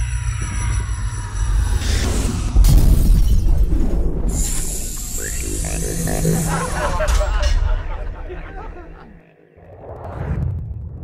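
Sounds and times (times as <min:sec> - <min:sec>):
deep rumble: 0:00.1 - 0:11.0.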